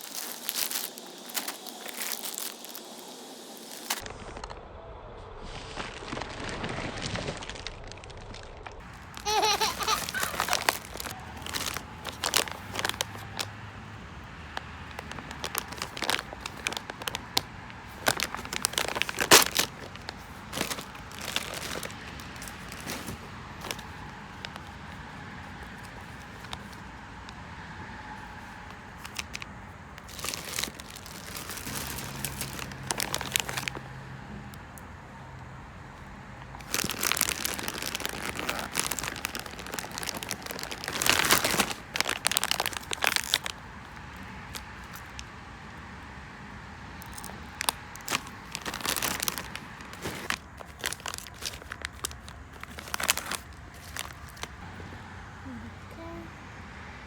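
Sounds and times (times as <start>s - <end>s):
plastic packaging crinkling: 0.0s - 4.1s, 5.8s - 13.6s, 14.2s - 27.4s, 28.2s - 34.6s, 36.4s - 45.3s, 47.0s - 54.6s.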